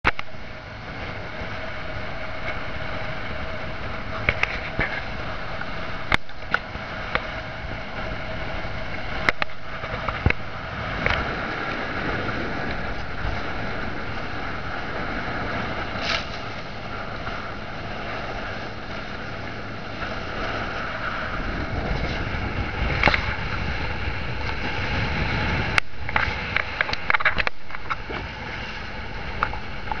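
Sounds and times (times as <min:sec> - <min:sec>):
water rushing past boat: 0:00.0 - 0:30.0
wind rushing: 0:00.4 - 0:29.4.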